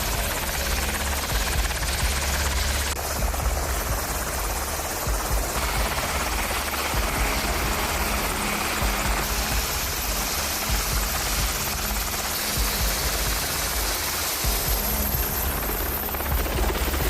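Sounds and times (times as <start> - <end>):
helicopter engine rushing: 0.0 - 17.0
helicopter rotor chopping: 0.0 - 17.0.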